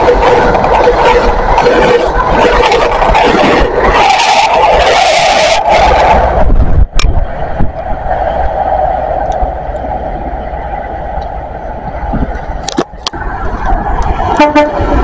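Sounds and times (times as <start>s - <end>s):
diesel engine drone: 0.0s - 15.0s
train rumbling on rails: 0.0s - 15.0s.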